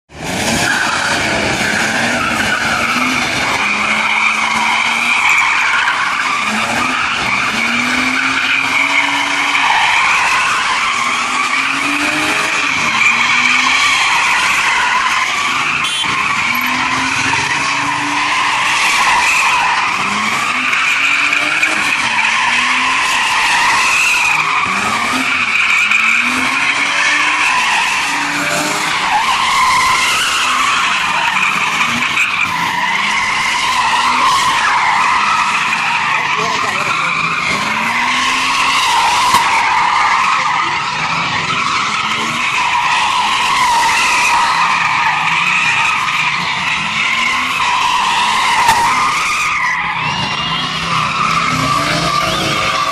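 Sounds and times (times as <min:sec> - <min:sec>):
car engine revving: 0:00.1 - 0:52.9
tyres squealing: 0:00.5 - 0:52.9.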